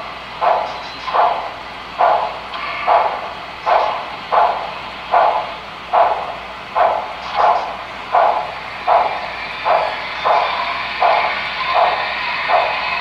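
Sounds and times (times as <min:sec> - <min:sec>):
model steam locomotive chuffs: 0:00.0 - 0:13.0.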